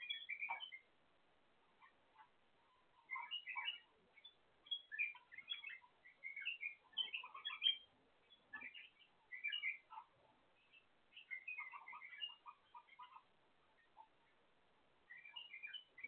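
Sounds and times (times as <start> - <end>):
birds chirping in bursts: 0.0 - 16.0.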